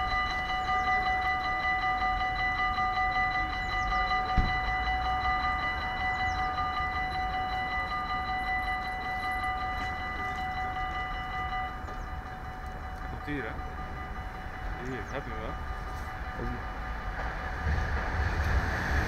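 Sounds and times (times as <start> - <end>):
level crossing bells ringing: 0.0 - 18.6.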